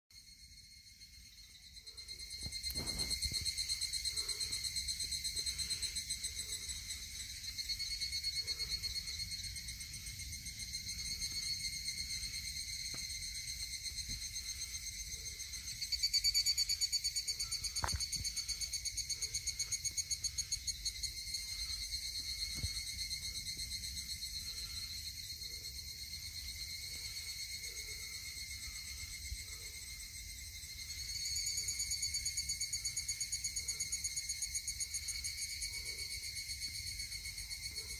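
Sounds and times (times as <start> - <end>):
cicadas buzzing: 0.2 - 37.8.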